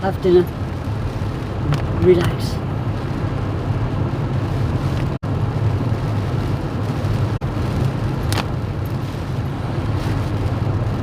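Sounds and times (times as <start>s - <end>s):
car interior engine rumble: 0.0s - 11.0s.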